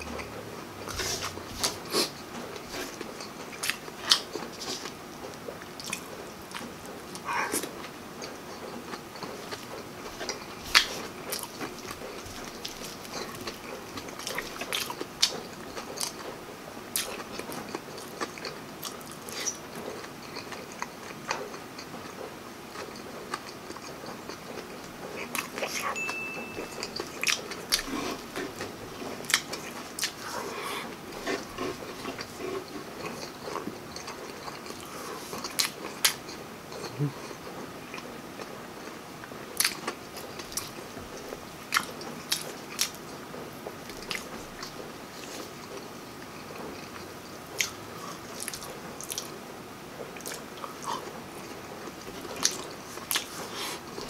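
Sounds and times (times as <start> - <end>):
person chewing and smacking: 0.0 - 54.0.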